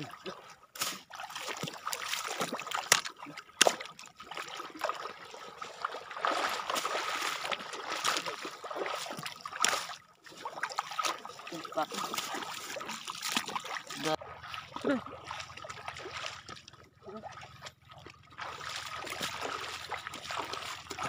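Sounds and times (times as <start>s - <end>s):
sharp water splashes: 0.0s - 21.0s
wading through seawater: 0.0s - 21.0s.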